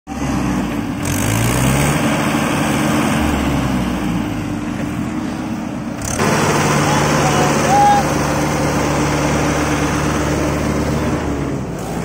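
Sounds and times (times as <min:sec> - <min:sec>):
tractor diesel engine running: 0:00.1 - 0:12.0.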